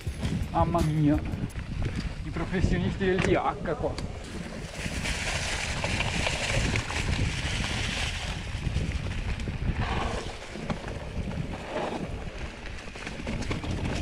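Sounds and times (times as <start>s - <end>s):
bike tyres and frame rattling: 0.0s - 14.0s
wind buffeting microphone: 0.0s - 14.0s.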